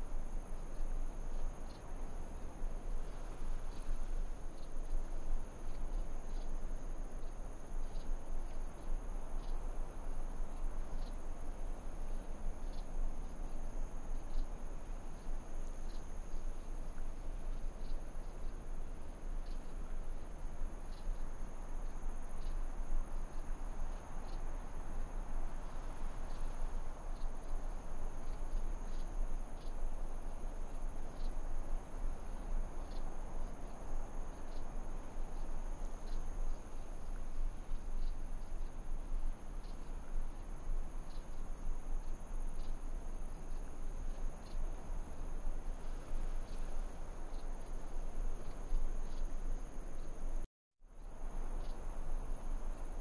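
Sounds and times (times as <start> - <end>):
background hiss: 0.0 - 53.0
insect chirring: 0.2 - 50.4, 51.0 - 53.0.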